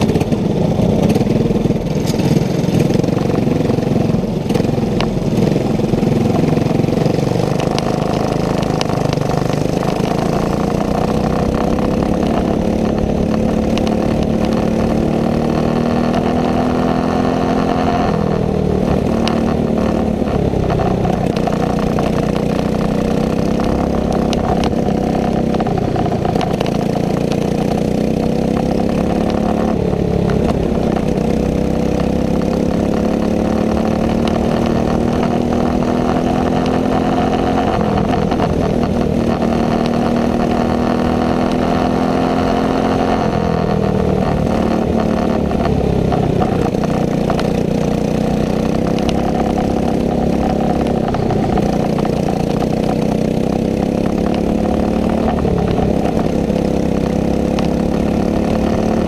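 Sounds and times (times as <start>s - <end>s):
racing kart engine revving: 0.0s - 59.0s.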